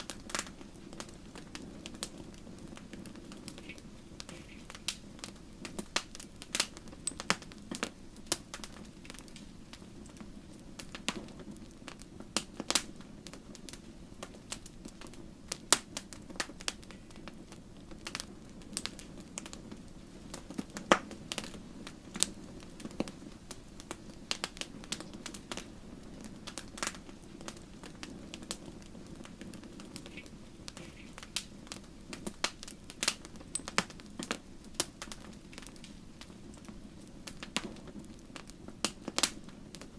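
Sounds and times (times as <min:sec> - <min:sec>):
fire pops and crackles: 0:00.0 - 0:39.9
low rush of flames: 0:00.0 - 0:39.9.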